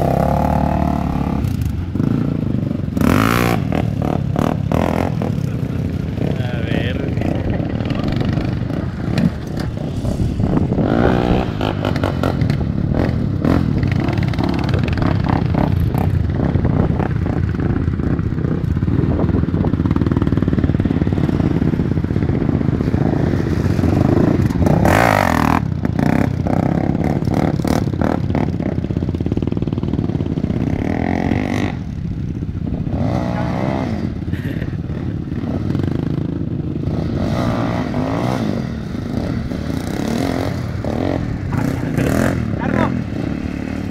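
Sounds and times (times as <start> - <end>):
quad engines revving: 0.0 - 43.9.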